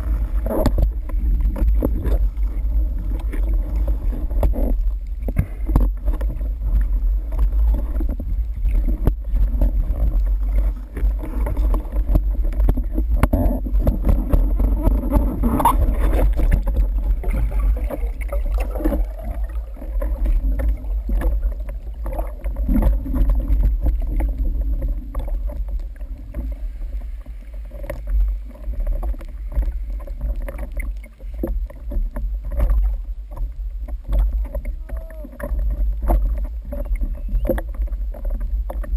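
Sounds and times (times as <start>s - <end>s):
muffled underwater rumble: 0.0s - 38.9s.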